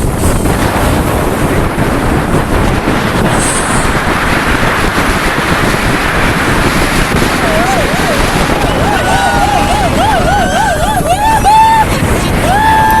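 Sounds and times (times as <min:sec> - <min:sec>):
speedboat rushing through water: 0:00.0 - 0:13.0
wind buffeting microphone: 0:00.0 - 0:13.0.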